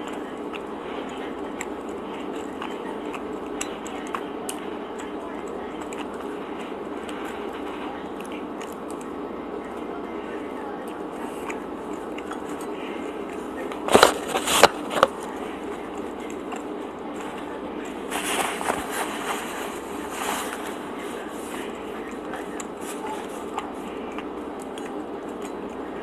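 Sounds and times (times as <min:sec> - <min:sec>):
crackly rustling: 0:00.0 - 0:26.0
steady background hum: 0:00.0 - 0:26.0.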